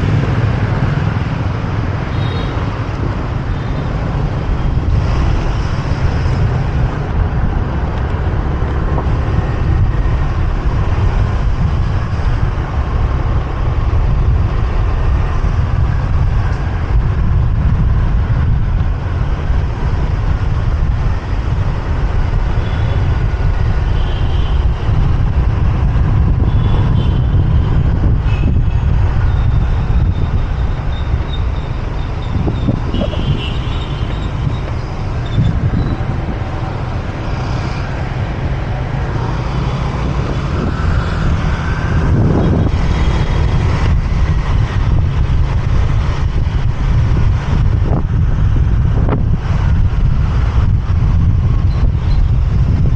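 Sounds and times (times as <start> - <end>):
surrounding traffic: 0.0 - 52.9
wind on microphone: 0.0 - 52.9.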